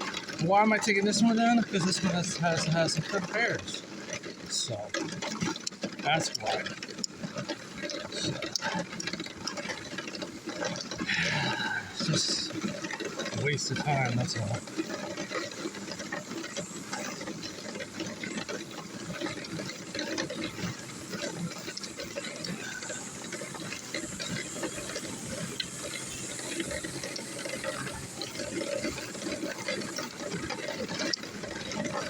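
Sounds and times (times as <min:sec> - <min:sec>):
push lawnmower rattling: 0:00.0 - 0:32.0.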